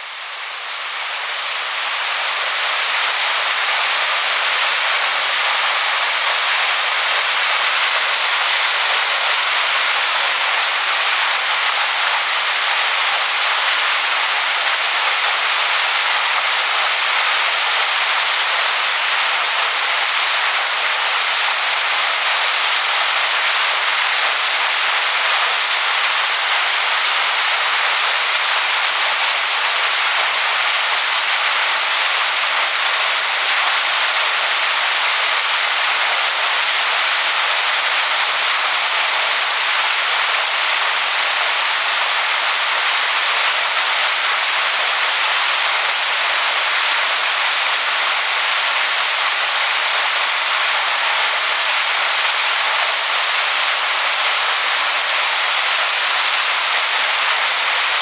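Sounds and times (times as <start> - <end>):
waterfall pouring onto rocks: 0.0 - 58.0.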